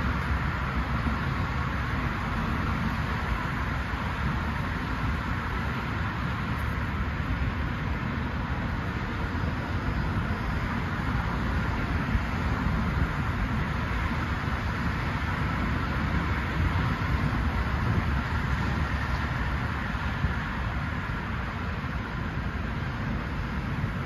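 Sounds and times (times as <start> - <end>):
expressway traffic: 0.0 - 24.0.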